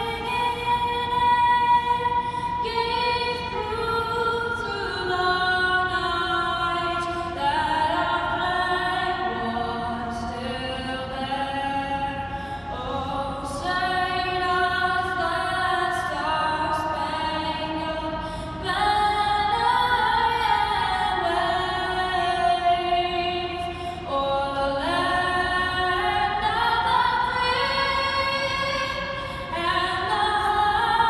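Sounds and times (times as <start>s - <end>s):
boy singing into a microphone: 0.0s - 31.0s.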